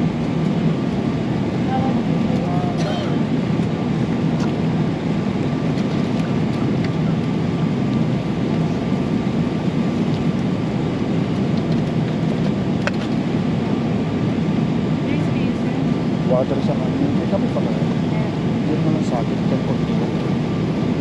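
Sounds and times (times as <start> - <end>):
jet engines humming: 0.0 - 21.0.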